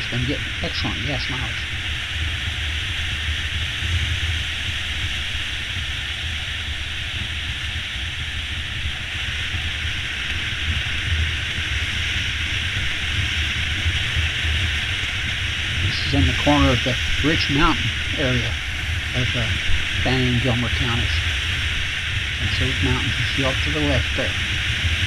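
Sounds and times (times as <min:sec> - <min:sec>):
motorcycle engine drone: 0:00.0 - 0:25.0
wind and road noise: 0:00.0 - 0:25.0.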